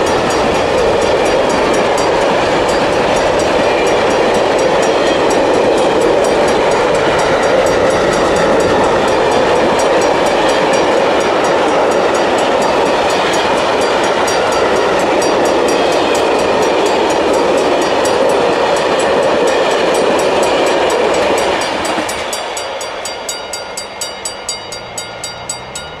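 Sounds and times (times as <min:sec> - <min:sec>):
train wagons rolling past: 0:00.0 - 0:26.0
wheels clacking over rail joints: 0:00.0 - 0:26.0.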